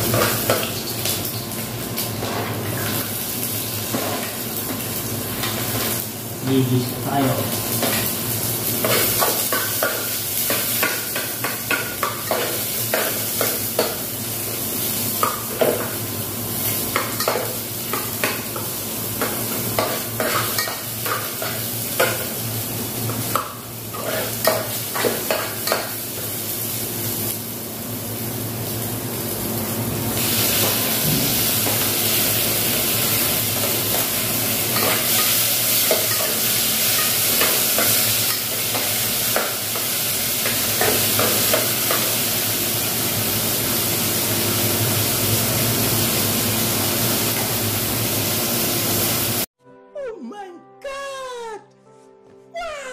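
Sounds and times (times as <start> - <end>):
oil sizzling: 0.0 - 49.5.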